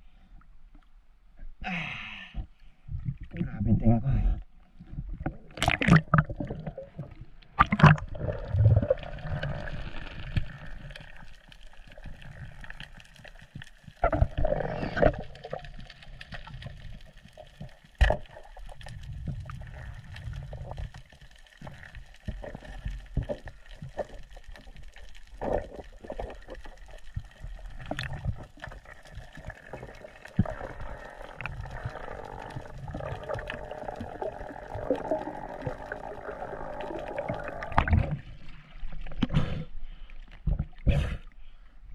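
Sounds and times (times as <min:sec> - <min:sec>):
muffled underwater sloshing and bubbling: 0:01.9 - 0:41.9
water splashing: 0:05.2 - 0:39.3.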